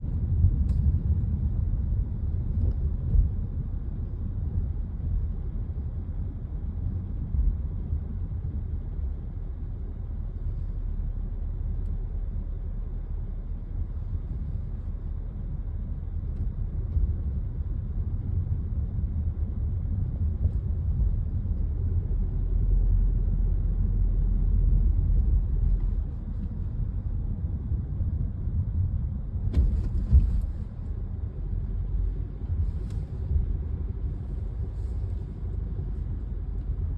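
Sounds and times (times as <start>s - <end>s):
car engine low rumble: 0.0s - 36.9s.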